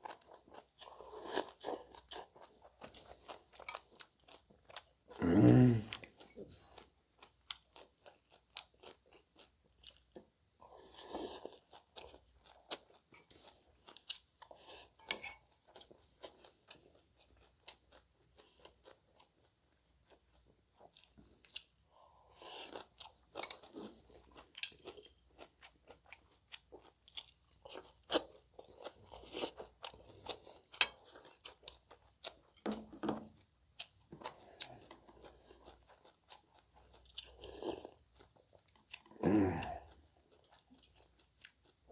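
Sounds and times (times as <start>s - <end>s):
chewing and crunching food: 0.0s - 41.9s.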